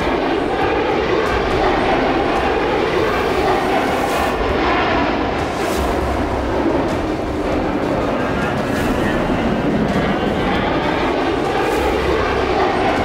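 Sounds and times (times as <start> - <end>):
jet fighter engine roar: 0.0 - 13.0.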